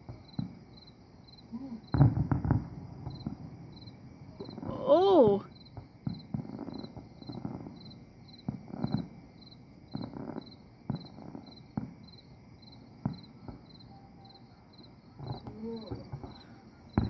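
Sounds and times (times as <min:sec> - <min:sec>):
cricket chirping: 0:00.0 - 0:17.0
distant fireworks bangs: 0:00.0 - 0:17.0.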